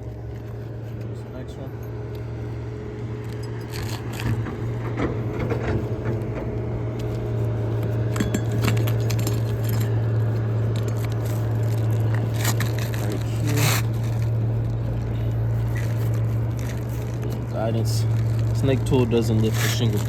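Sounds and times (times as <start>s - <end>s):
steady low hum: 0.0s - 20.0s
roofing tools scraping shingles: 3.6s - 20.0s.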